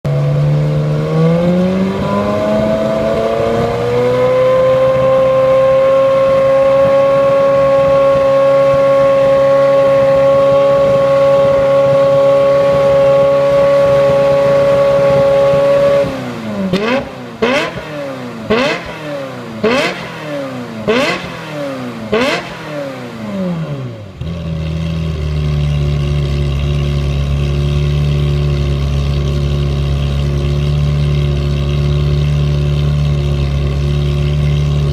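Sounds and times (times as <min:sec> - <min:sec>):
sports car engine revving: 0:00.1 - 0:34.9.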